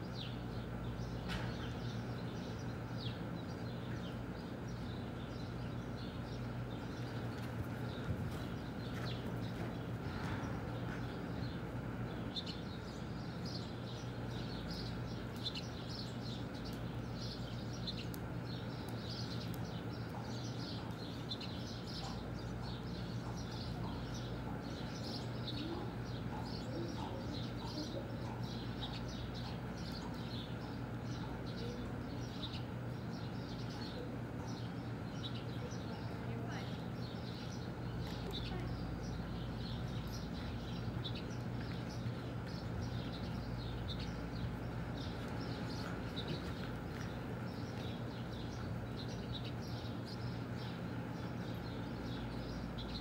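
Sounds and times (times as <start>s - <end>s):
birds chirping: 0.0s - 53.0s
steady low hum: 0.0s - 53.0s.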